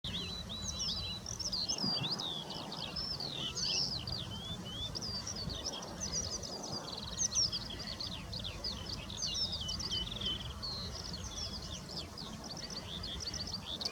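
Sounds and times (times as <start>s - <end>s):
songbirds singing: 0.0s - 13.9s.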